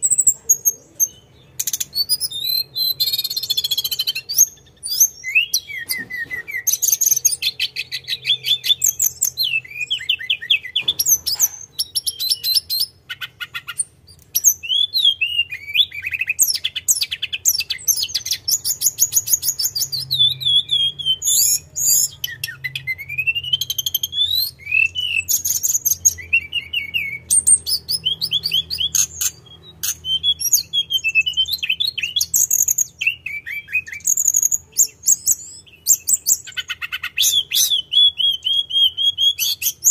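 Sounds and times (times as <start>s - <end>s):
songbird trilling and whistling: 0.0s - 39.9s.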